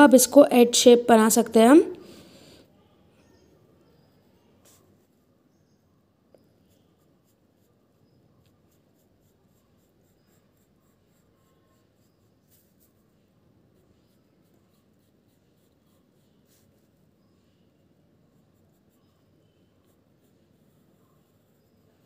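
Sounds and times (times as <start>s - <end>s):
pencil scratching on paper: 3.3s - 5.8s, 6.4s - 22.0s.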